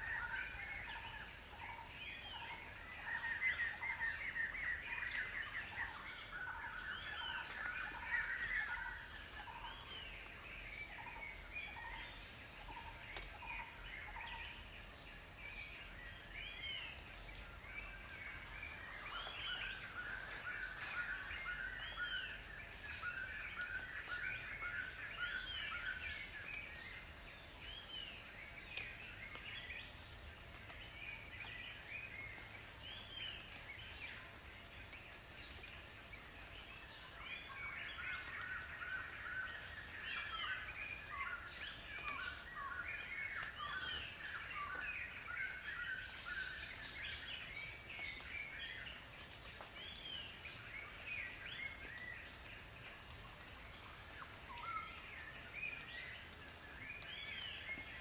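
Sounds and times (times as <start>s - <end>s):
wild birds chirping: 0.0s - 58.0s.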